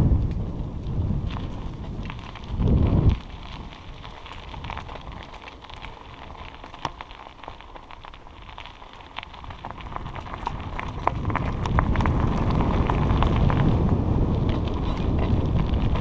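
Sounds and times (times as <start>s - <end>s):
bicycle tyres crackling on dirt: 0.0s - 16.0s
wind rumble on microphone: 0.0s - 16.0s.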